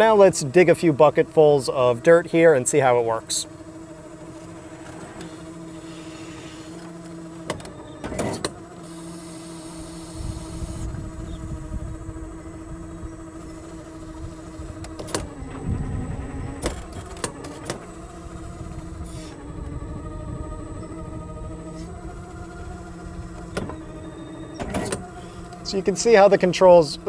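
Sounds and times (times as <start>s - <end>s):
hydraulic drive humming: 0.0s - 27.0s.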